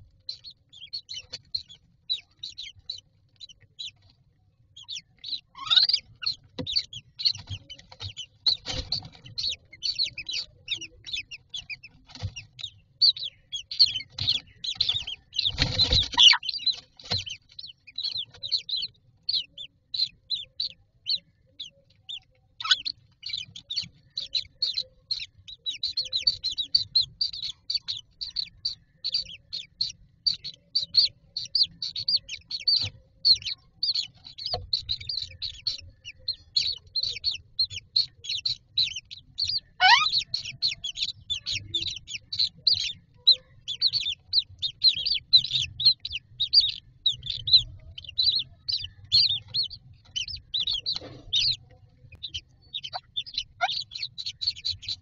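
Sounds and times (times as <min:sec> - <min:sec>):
nestlings chirping: 0:00.0 - 0:55.0.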